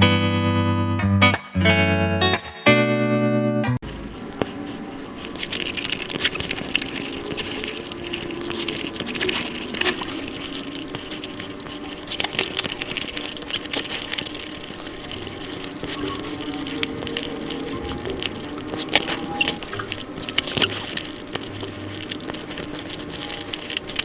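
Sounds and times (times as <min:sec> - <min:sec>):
rapid clicky chewing and smacking: 0:03.8 - 0:24.0.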